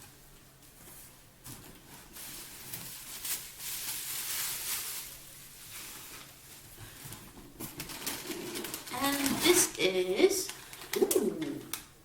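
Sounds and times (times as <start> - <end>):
packaging rustling and crinkling: 1.4 - 11.9.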